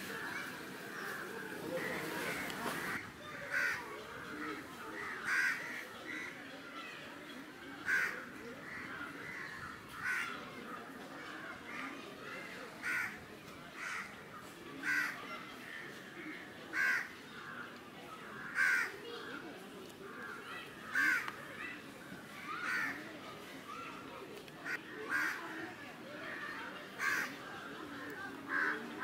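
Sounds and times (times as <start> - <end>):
low outdoor background: 0.0 - 29.0.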